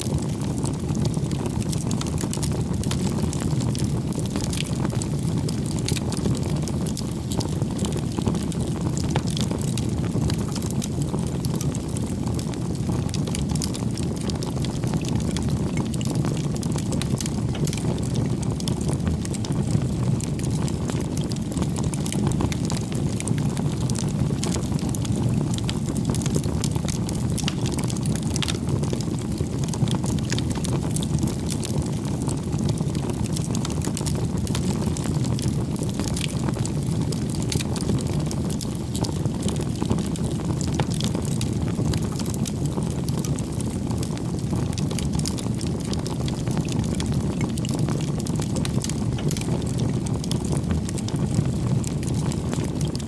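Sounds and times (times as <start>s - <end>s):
burning wood crackling and popping: 0.0s - 53.0s
campfire flames rushing: 0.0s - 53.0s.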